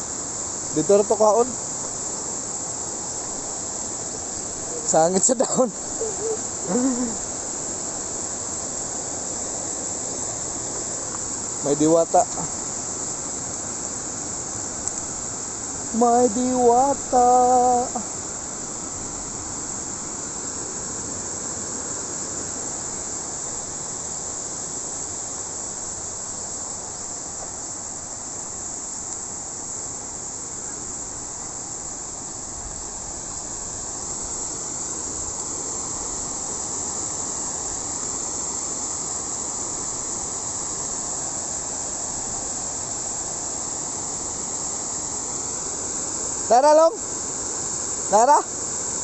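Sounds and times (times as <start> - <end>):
high insect drone: 0.0 - 49.0
water rushing over a weir: 0.1 - 49.0.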